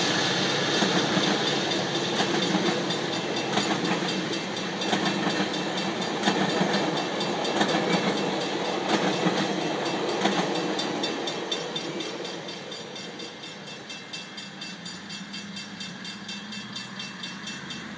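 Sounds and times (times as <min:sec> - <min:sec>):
train wheels clacking on rails: 0:00.0 - 0:17.9.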